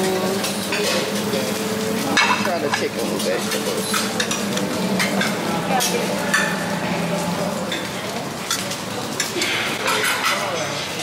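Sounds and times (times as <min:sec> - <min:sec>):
utensils and plates clinking: 0:00.0 - 0:11.0.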